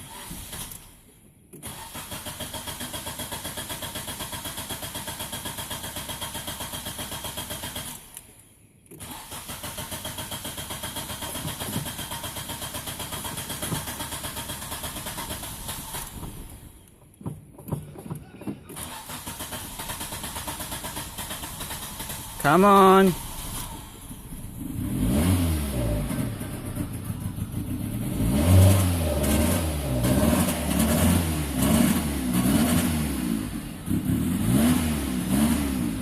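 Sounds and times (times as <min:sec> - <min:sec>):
engine cranking on starter motor: 0:00.0 - 0:08.3, 0:08.9 - 0:17.0, 0:18.7 - 0:35.5.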